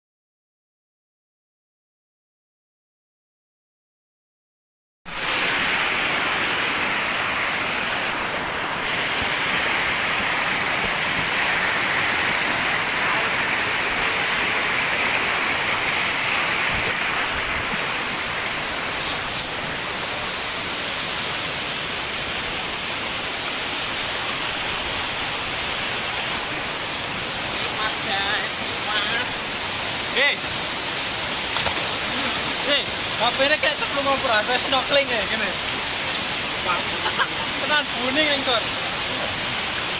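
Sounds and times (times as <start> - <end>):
waterfall rushing: 5.1 - 39.9.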